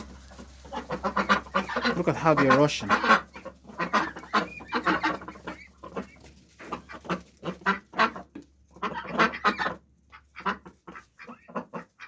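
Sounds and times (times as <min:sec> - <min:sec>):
ducks quacking rapidly: 0:00.0 - 0:12.0.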